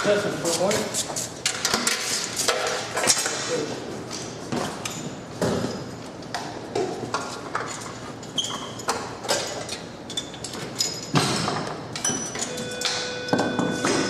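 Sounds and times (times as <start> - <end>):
busy workshop background: 0.0 - 14.0.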